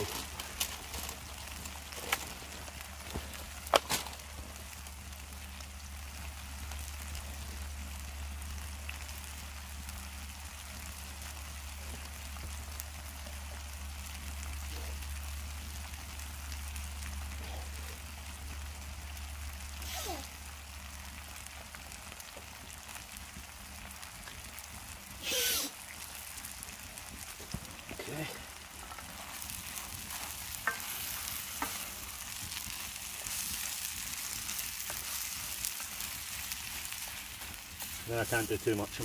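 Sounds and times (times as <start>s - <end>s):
noodles sizzling in a pan: 0.0s - 39.0s.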